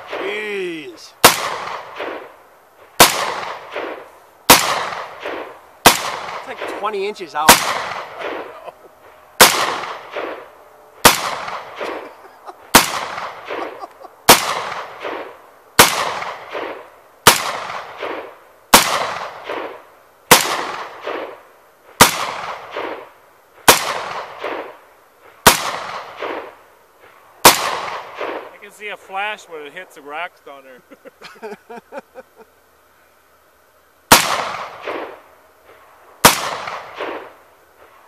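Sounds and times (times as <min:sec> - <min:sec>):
gunshots with rolling echo: 0:00.0 - 0:26.7, 0:27.4 - 0:29.4, 0:34.1 - 0:38.0.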